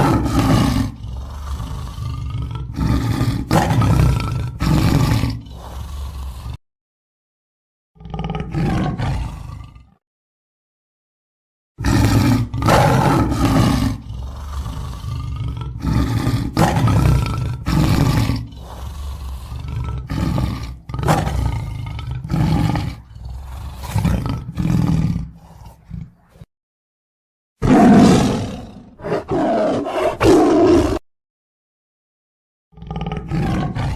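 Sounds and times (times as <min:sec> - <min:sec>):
lion roaring: 0:00.0 - 0:06.6, 0:08.0 - 0:10.0, 0:11.8 - 0:26.5, 0:27.6 - 0:31.0, 0:32.8 - 0:33.9.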